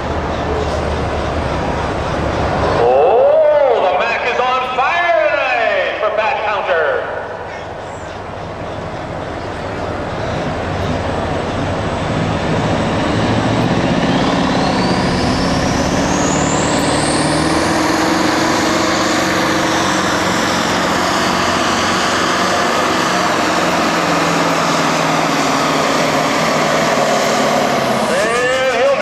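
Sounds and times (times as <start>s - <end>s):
diesel truck engine at full throttle: 0.0s - 29.0s
high whine: 0.0s - 29.0s.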